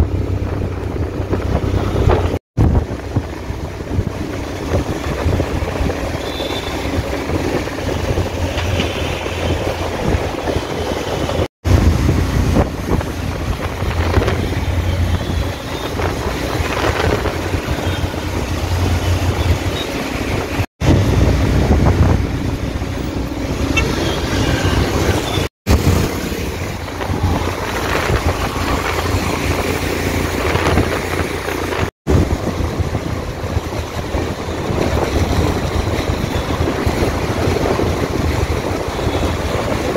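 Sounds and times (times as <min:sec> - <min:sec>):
road noise on wet roads: 0:00.0 - 0:39.9
wind on microphone: 0:00.0 - 0:39.9.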